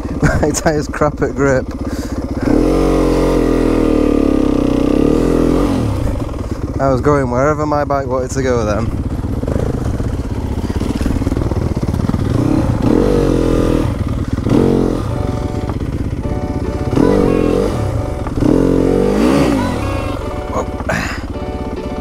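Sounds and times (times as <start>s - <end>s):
dirt bike engine revving: 0.0s - 7.1s, 8.4s - 22.0s.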